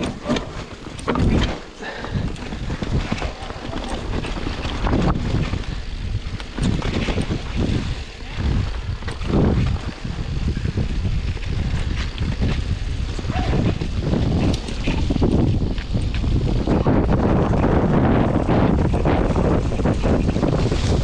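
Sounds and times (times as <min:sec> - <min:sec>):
bike knocking and rattling: 0:00.0 - 0:21.0
wind buffeting microphone: 0:00.0 - 0:21.0.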